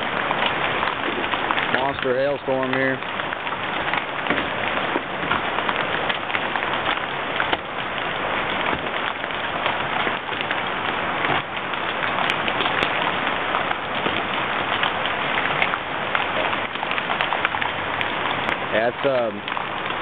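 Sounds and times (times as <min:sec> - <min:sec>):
heavy hail clattering on ground: 0:00.0 - 0:20.0.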